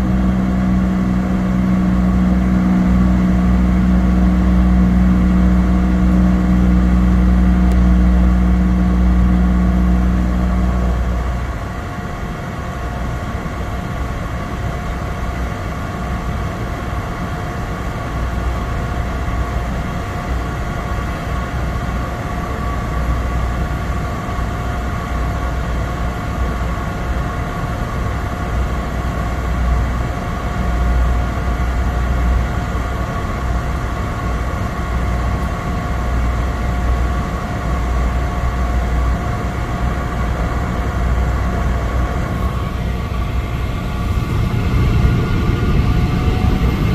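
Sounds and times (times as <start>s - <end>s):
propeller drone: 0.0s - 46.9s
turbine whine: 0.0s - 46.9s.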